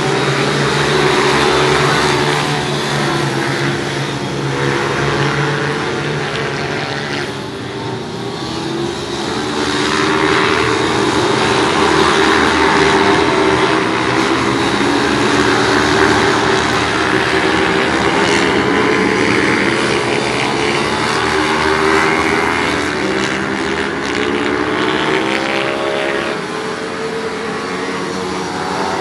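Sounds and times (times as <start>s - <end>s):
pit bike engines racing: 0.0s - 29.0s.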